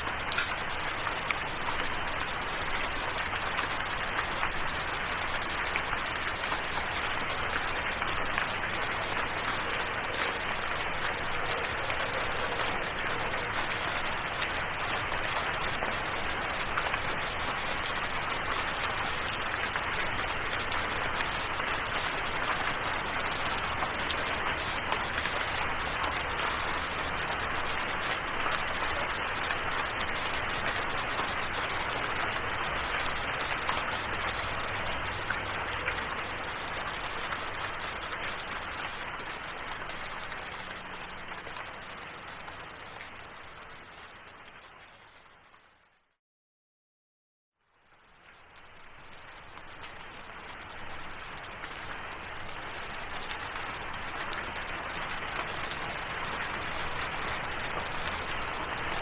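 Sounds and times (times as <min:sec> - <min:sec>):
steady rain pattering: 0:00.0 - 0:46.0, 0:47.6 - 0:59.0.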